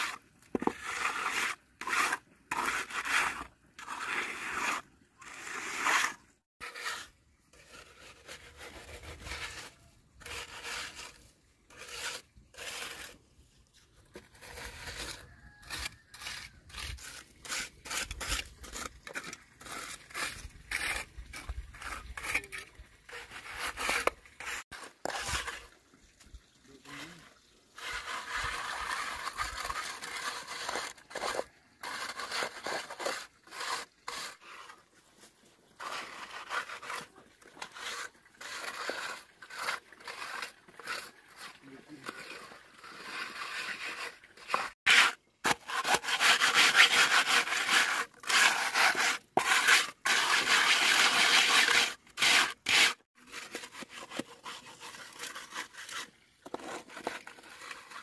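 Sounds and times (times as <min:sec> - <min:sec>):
scraping on a rough surface: 0:00.0 - 0:58.0.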